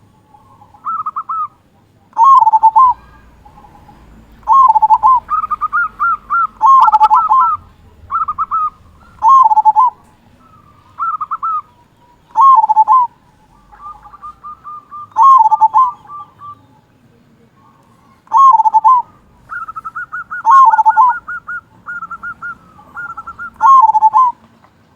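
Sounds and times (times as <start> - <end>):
dove cooing: 0.0 - 16.8, 17.6 - 24.4.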